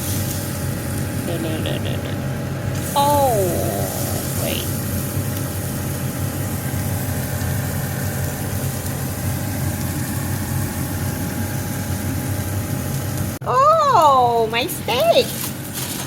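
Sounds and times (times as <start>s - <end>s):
gas burner rumbling and hissing: 0.0s - 16.0s.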